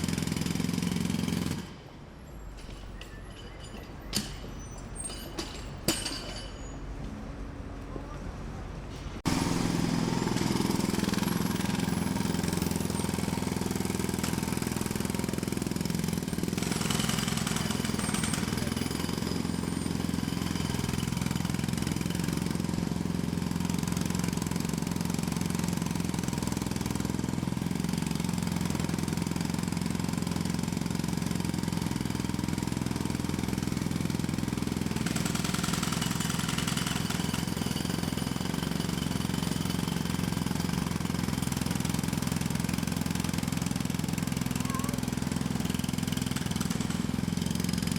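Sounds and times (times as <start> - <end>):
jackhammer hammering: 0.0 - 1.8, 9.2 - 47.9.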